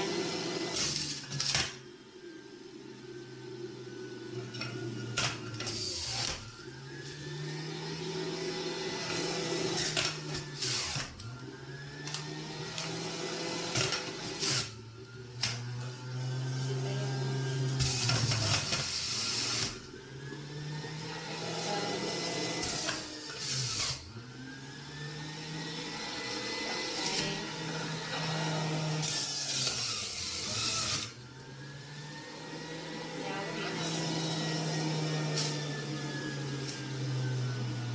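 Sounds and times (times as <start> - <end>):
juicer grinding bursts: 0.0 - 1.9, 3.4 - 37.9
juicer motor hum: 0.0 - 37.9.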